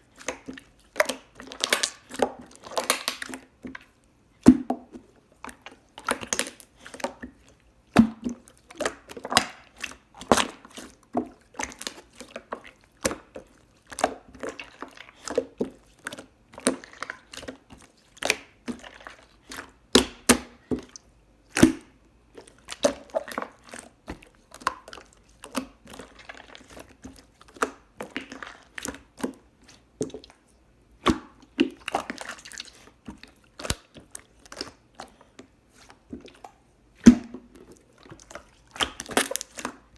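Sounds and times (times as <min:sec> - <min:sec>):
wet chewing of soft food: 0:00.0 - 0:39.9.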